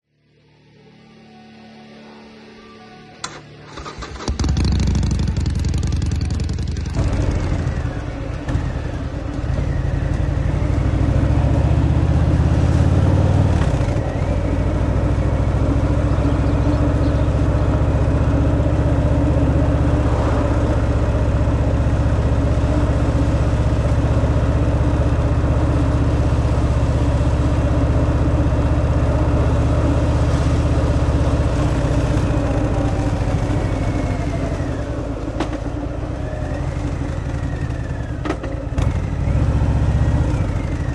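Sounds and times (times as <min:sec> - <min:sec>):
motorcycle engine running: 0:03.8 - 0:40.9.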